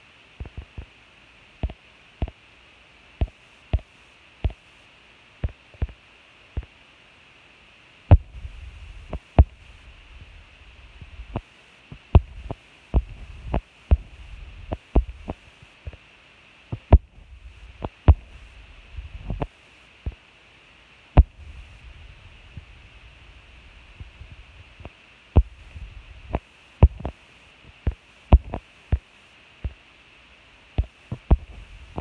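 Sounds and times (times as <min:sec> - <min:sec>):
faint steady hiss: 0:00.0 - 0:32.0.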